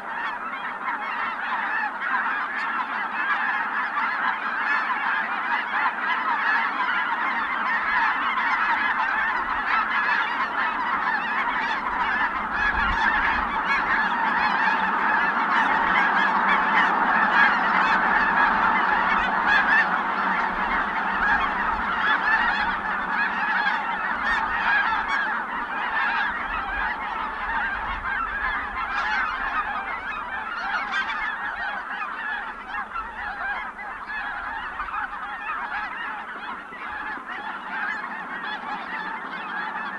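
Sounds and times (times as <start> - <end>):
flock of geese calling: 0.0 - 39.9.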